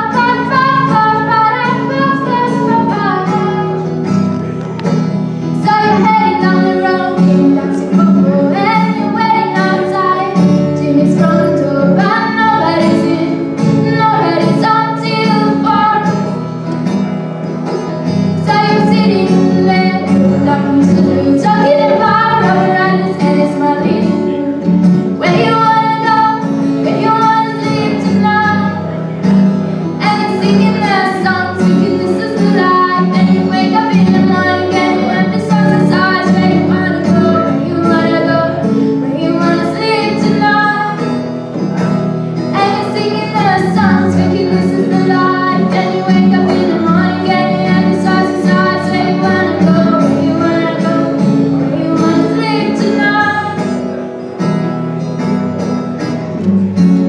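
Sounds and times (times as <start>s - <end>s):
woman singing: 0.0s - 3.9s, 5.5s - 16.4s, 18.4s - 28.8s, 30.0s - 41.2s, 42.5s - 53.8s
strummed acoustic guitar: 0.0s - 57.0s.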